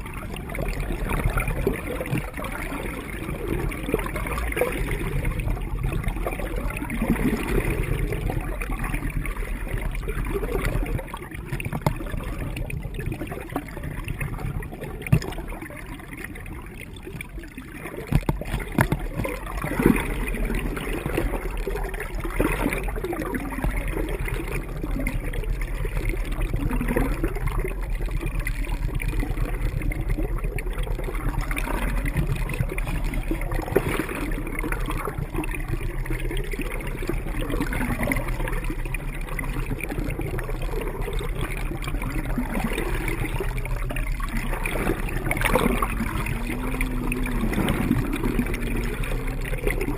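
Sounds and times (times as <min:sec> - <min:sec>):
water rushing along hull: 0:00.0 - 0:49.9.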